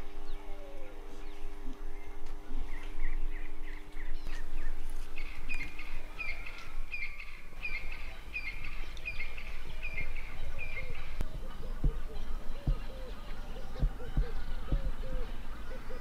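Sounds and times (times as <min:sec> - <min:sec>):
low outdoor rumble: 0:00.0 - 0:16.0
steady low hum: 0:00.0 - 0:16.0
wild birds calling: 0:00.0 - 0:16.0.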